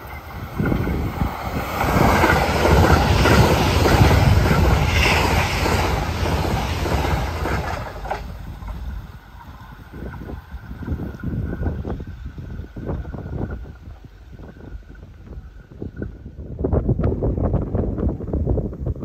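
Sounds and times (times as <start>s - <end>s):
electric train passing: 0.0s - 17.4s.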